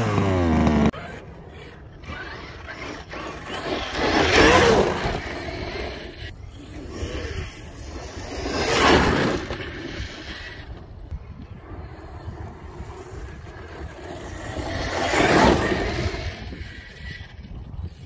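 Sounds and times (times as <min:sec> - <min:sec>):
rc truck speeding past on sand: 0:00.0 - 0:18.0
wind rumble on microphone: 0:01.6 - 0:18.0.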